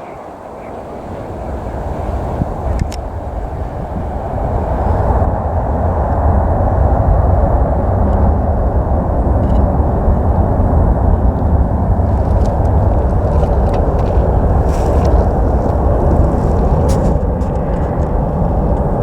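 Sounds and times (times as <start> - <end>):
jet aircraft engine rumble: 0.0 - 19.0.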